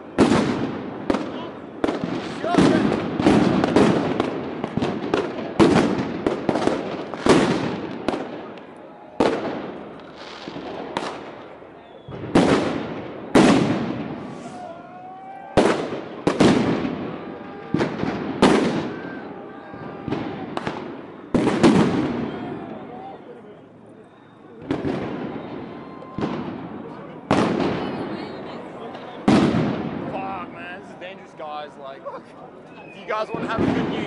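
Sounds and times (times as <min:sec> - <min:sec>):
firecrackers banging with echo: 0:00.0 - 0:23.0, 0:24.0 - 0:30.9, 0:32.8 - 0:34.0.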